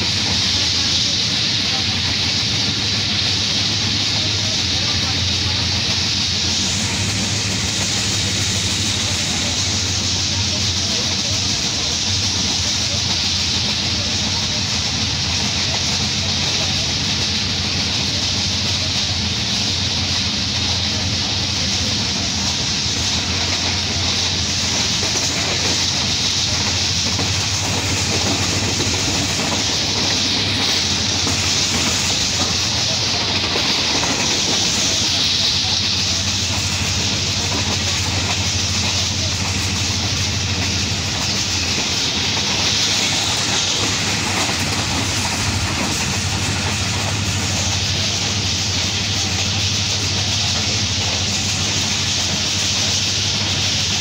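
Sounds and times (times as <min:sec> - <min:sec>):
train wheels rumbling on rails: 0:00.0 - 0:54.0
wind rushing hiss: 0:00.0 - 0:54.0.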